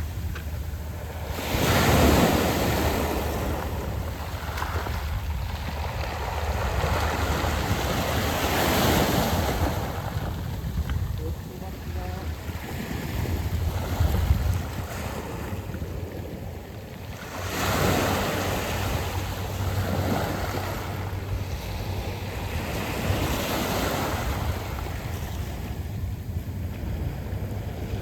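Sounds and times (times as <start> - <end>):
waves on pebble beach: 0.0 - 28.0
wind rumbling on microphone: 0.0 - 28.0.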